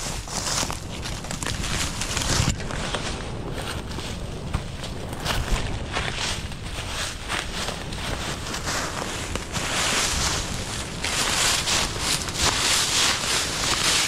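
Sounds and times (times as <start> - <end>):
dry leaves crunching underfoot: 0.0 - 14.0.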